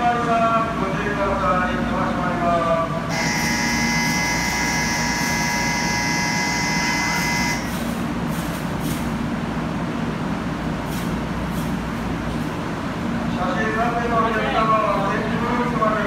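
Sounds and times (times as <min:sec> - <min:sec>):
train humming at platform: 0:00.0 - 0:16.0.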